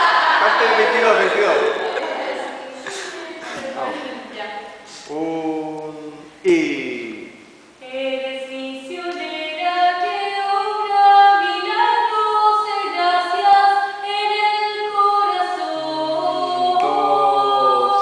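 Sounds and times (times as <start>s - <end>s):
choir singing a cappella: 0.0s - 4.8s, 7.8s - 18.0s.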